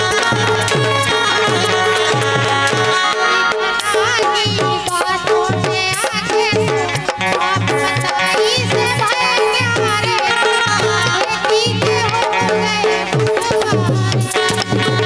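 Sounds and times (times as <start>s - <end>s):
hand drum rhythm: 0.0s - 15.0s
ornamented folk melody: 0.0s - 15.0s.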